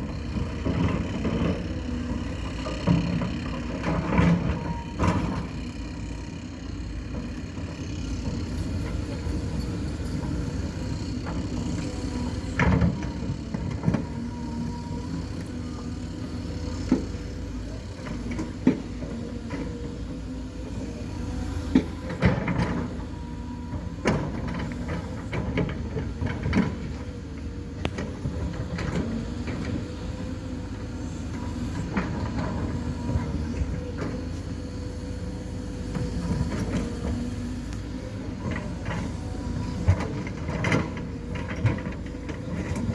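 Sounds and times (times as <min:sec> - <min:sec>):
diesel machine engine drone: 0:00.0 - 0:42.9.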